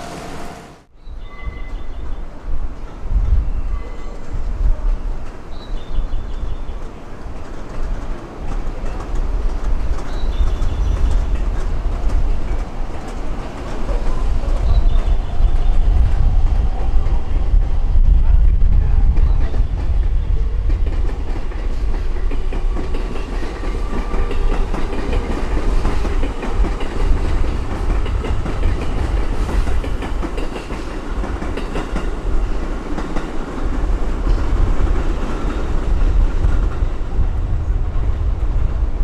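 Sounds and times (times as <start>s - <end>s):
train rumbling past: 0.0s - 39.0s.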